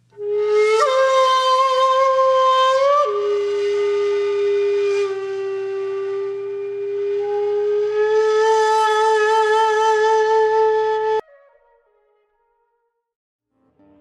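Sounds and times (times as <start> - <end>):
wind instrument long notes: 0.1 - 12.8.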